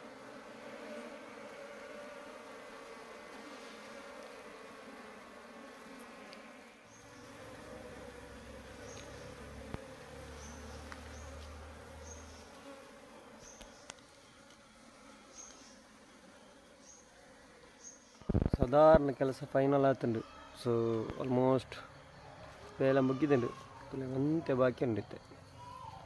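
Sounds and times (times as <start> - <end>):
honeybees buzzing: 0.0 - 25.6.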